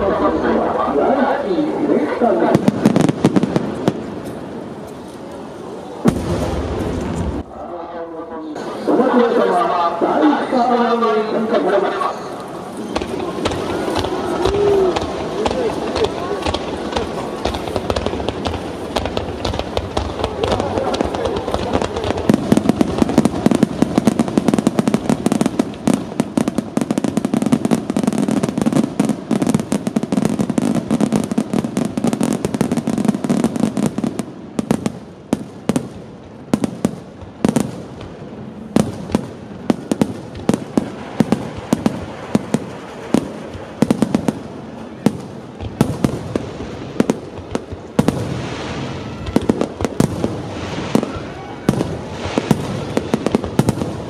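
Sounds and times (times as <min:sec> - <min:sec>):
fireworks bangs: 0:00.0 - 0:07.7, 0:08.6 - 0:54.0.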